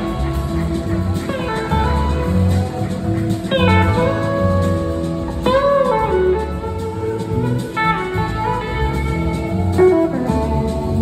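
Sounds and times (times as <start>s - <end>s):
electric slide guitar: 0.0s - 11.0s
rock band playing: 0.0s - 11.0s.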